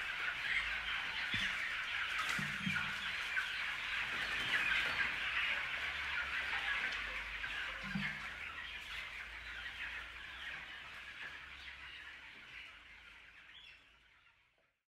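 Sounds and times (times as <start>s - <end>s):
chicks peeping: 0.0s - 14.7s.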